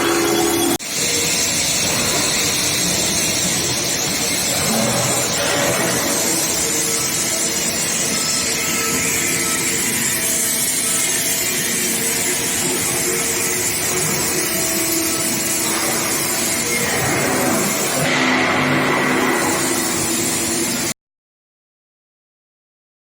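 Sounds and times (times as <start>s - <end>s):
loud machine hiss: 0.0s - 20.9s.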